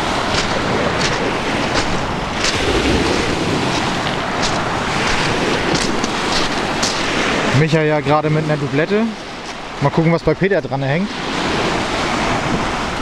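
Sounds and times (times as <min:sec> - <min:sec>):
surf washing onto sand: 0:00.0 - 0:13.0
wind buffeting microphone: 0:00.0 - 0:13.0.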